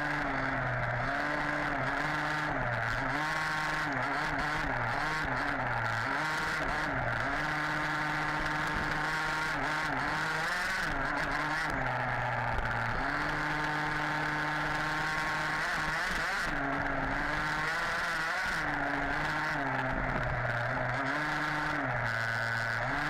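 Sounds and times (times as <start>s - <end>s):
small two-stroke engine revving: 0.0s - 23.0s.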